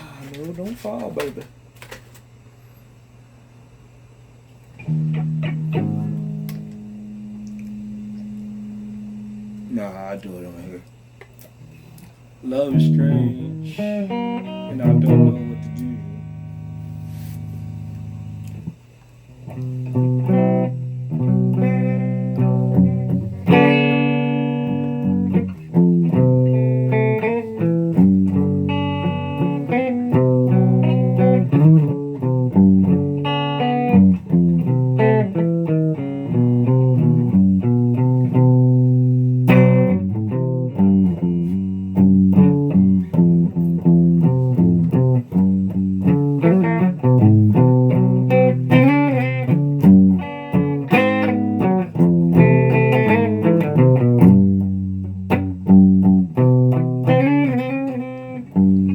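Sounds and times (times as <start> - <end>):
guitar plucked notes and chords: 4.8 - 10.8, 12.5 - 18.8, 19.4 - 58.9.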